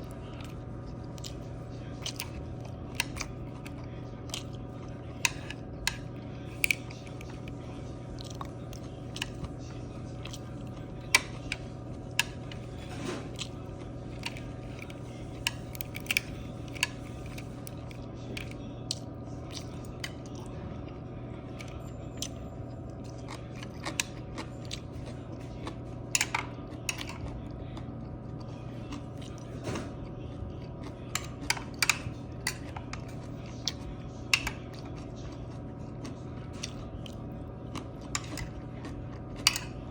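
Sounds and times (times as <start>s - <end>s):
person chewing and crunching: 0.0s - 39.9s
steady low hum: 0.0s - 39.9s.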